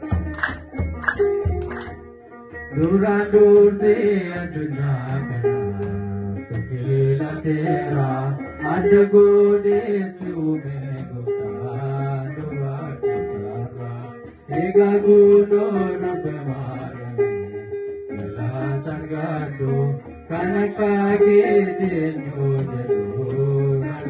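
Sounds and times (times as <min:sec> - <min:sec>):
plucked lyre: 0:00.0 - 0:24.0.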